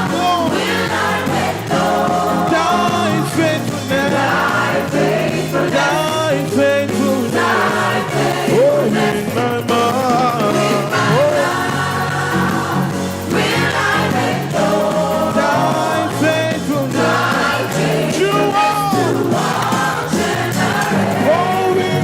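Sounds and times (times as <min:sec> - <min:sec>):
congregation singing: 0:00.0 - 0:22.0
gospel band playing: 0:00.0 - 0:22.0
lead singer: 0:00.0 - 0:22.0.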